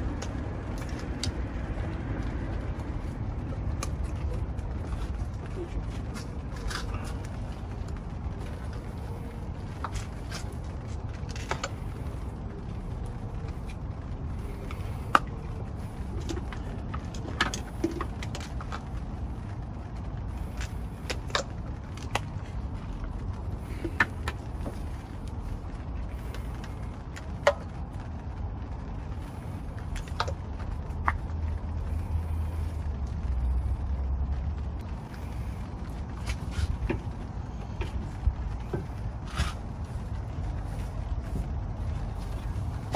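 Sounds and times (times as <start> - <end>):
low background rumble: 0.0 - 42.9.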